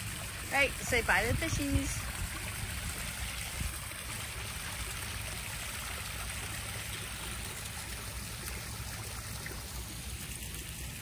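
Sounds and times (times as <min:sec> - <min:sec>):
small waterfall splashing over stones: 0:00.0 - 0:11.0.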